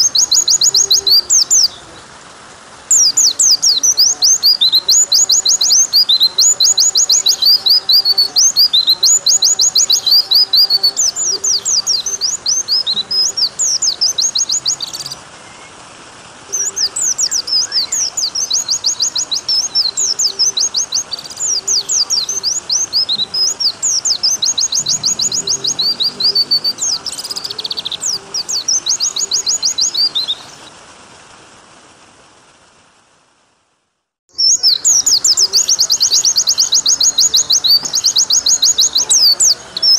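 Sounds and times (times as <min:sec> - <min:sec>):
bird chirping song: 0:00.0 - 0:02.1, 0:02.9 - 0:15.8, 0:16.5 - 0:30.7, 0:34.3 - 0:39.9
running water: 0:00.0 - 0:39.9.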